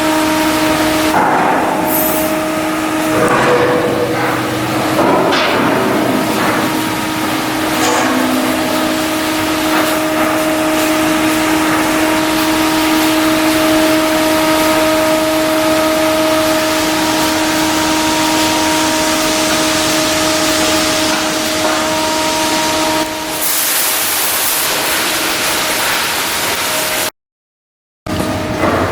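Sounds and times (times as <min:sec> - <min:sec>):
loud machine hiss: 0:00.0 - 0:27.1
machine humming tones: 0:00.0 - 0:27.1.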